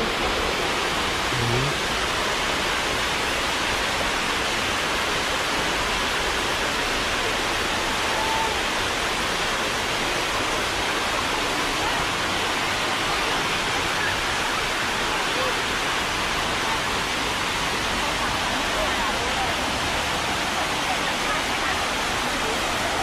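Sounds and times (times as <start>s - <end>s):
waterfall rushing over rocks: 0.0s - 23.0s.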